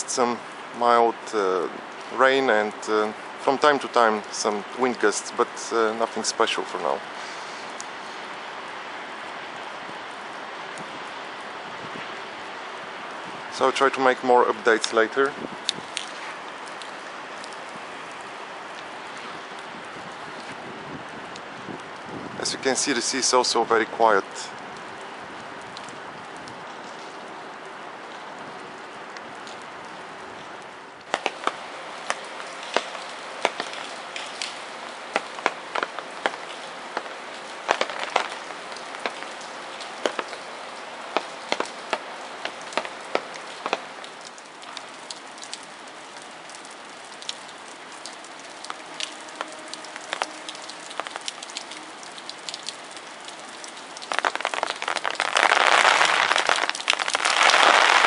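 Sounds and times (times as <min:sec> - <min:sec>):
raindrops tapping close by: 0:00.0 - 0:58.0
steady hiss of rain: 0:00.0 - 0:58.0.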